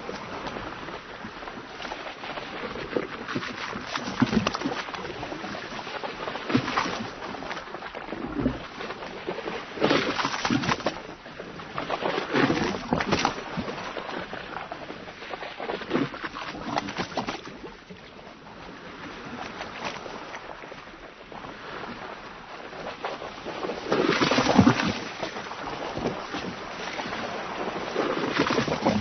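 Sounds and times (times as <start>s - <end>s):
waves splashing on boat hull: 0.0s - 29.0s.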